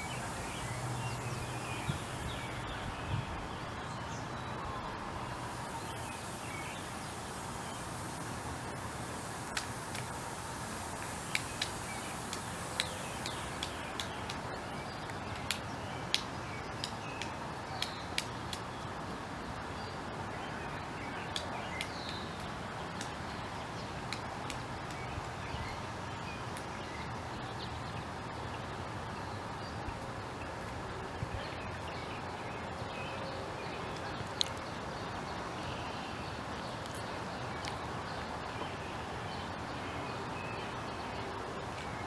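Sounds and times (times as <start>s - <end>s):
steady background noise: 0.0s - 42.0s.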